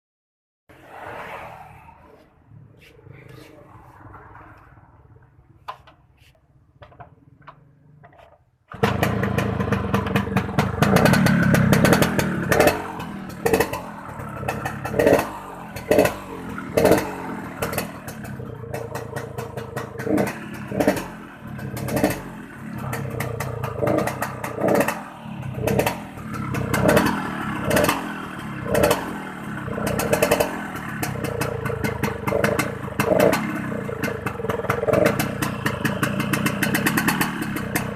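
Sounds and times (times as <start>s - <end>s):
motorcycle engine revving: 7.4s - 37.9s.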